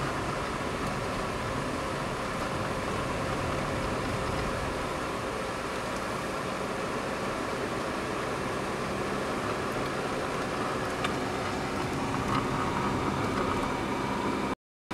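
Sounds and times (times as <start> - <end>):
car engine running: 0.0 - 14.6
road noise inside car: 0.0 - 14.6.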